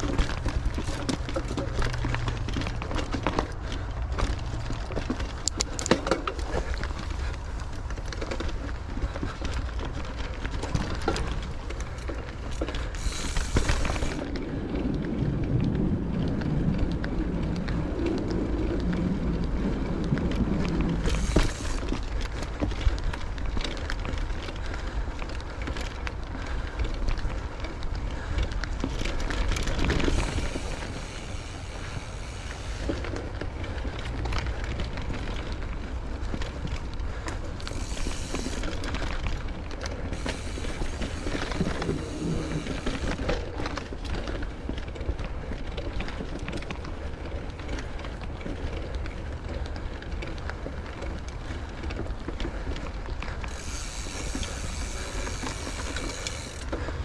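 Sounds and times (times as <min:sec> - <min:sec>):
bike rattling and clicking: 0:00.0 - 0:57.0
low wind rumble on microphone: 0:00.0 - 0:57.0
tyres crackling over dirt trail: 0:00.0 - 0:57.0.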